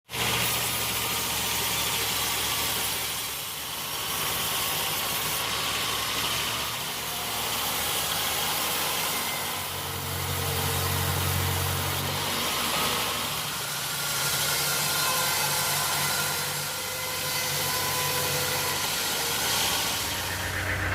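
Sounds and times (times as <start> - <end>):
engine hum: 0.1 - 20.9.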